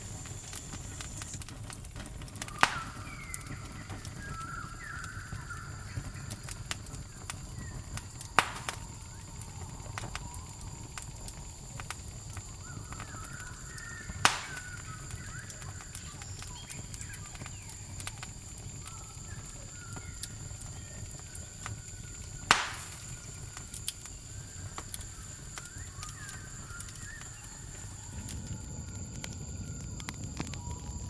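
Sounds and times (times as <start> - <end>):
campfire crackling: 0.0 - 31.0
crickets trilling: 0.0 - 31.0
sharp fire pops: 0.0 - 31.0.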